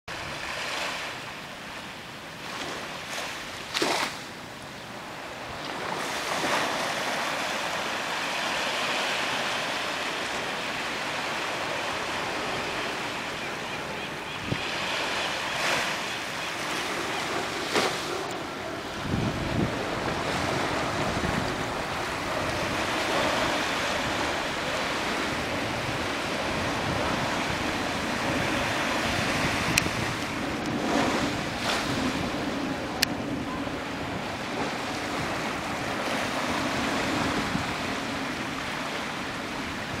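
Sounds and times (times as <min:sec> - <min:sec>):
surf washing up sand: 0:00.1 - 0:40.0
wind buffeting microphone: 0:04.9 - 0:40.0.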